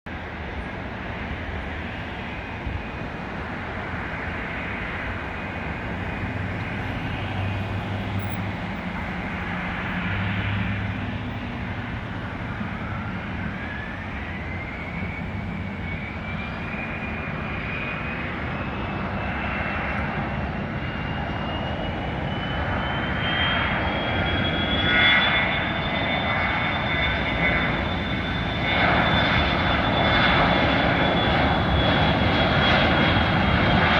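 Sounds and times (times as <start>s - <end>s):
jet engines running: 0.1s - 33.9s
rising engine whine: 4.8s - 33.9s.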